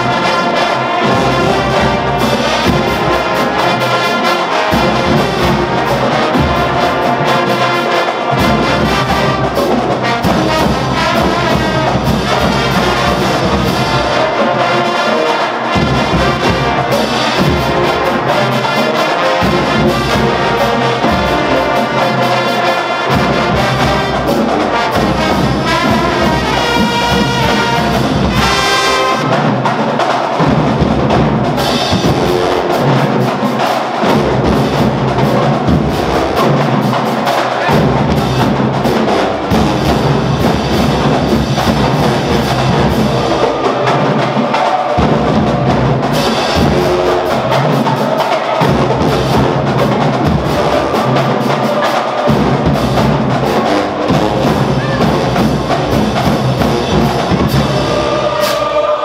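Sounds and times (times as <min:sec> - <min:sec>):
marching band brass playing: 0:00.0 - 0:59.0.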